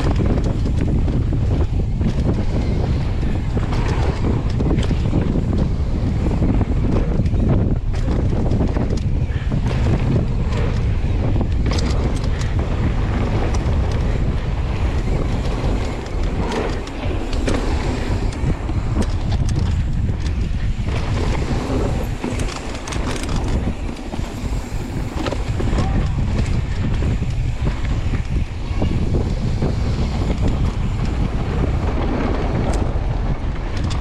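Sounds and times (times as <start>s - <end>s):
bike rattling over rough trail: 0.0s - 34.0s
wind rumbling over microphone: 0.0s - 34.0s.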